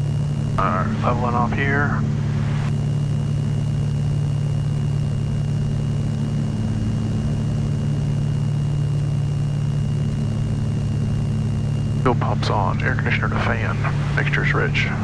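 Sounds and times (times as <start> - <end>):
aircraft cabin engine drone: 0.0 - 15.0
faint high-pitched whine: 0.0 - 15.0.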